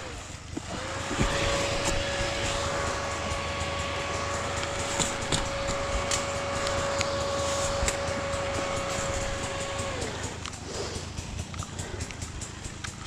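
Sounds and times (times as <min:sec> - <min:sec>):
motor whining: 0:00.0 - 0:13.0
sharp clicks and knocks: 0:00.4 - 0:13.0.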